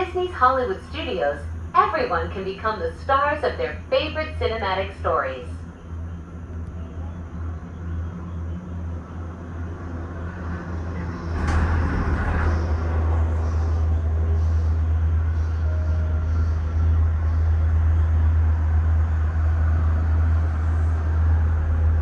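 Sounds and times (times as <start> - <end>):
low rumble of gondola cabin: 0.0 - 22.0.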